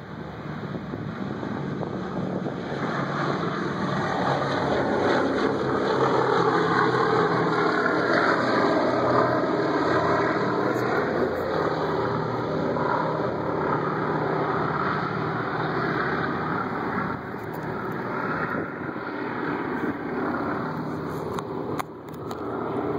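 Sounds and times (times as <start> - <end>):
propeller aircraft engines droning: 0.0 - 22.9.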